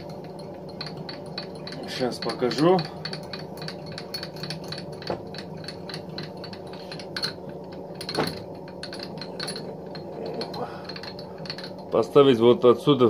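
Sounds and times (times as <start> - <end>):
handwheel clicking and rattling: 0.0 - 12.2
steady low hum: 0.0 - 13.0.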